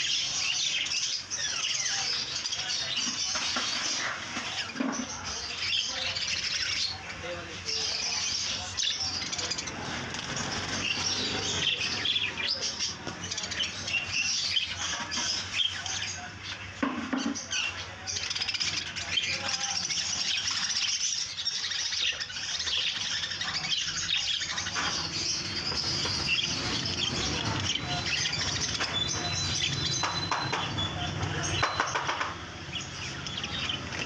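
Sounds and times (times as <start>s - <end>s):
budgerigars chirping: 0.0s - 34.0s.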